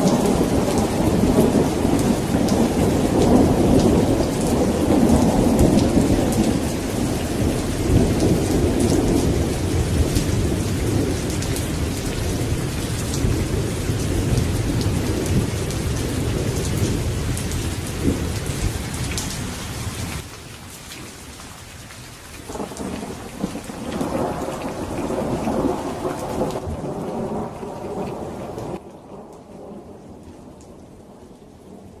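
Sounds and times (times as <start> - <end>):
rolling thunder: 0.0 - 19.6, 22.5 - 32.0
steady rain falling: 0.0 - 32.0.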